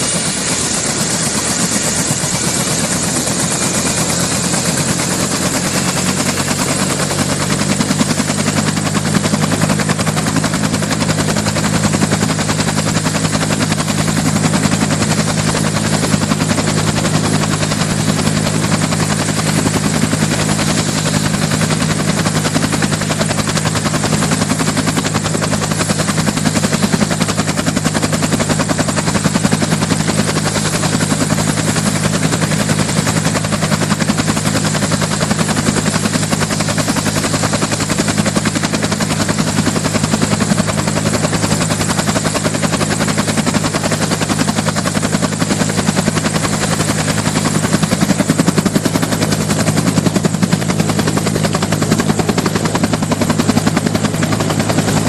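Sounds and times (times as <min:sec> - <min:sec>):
helicopter engine hum: 0:00.0 - 0:55.0
helicopter rotor chop: 0:00.0 - 0:55.0.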